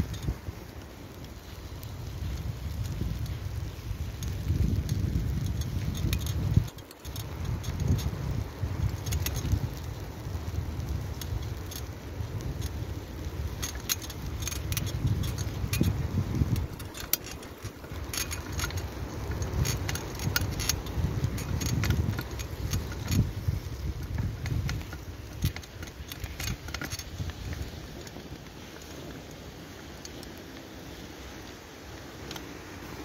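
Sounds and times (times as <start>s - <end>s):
bike chain rattling and clicking: 0.0s - 33.0s
low rumble of bike riding on snow: 0.0s - 33.0s.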